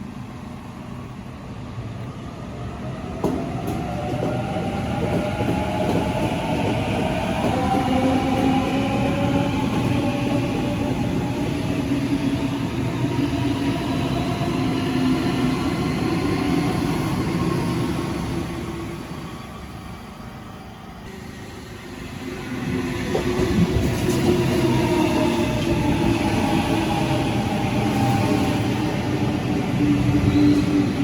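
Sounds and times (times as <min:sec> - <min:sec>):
electric train passing: 0:00.1 - 0:31.0.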